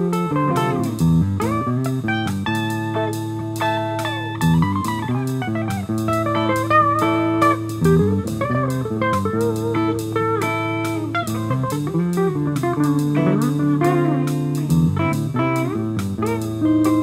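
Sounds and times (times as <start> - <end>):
plucked guitar: 0.0 - 17.0
steady drum beat: 0.0 - 17.0.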